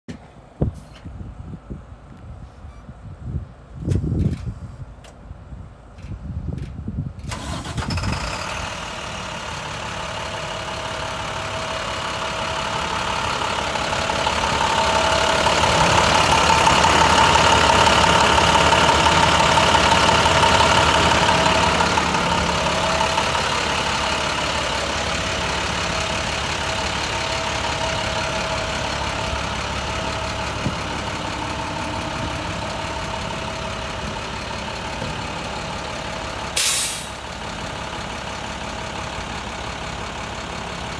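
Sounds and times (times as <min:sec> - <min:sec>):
diesel truck engine idling: 0:05.3 - 0:40.9.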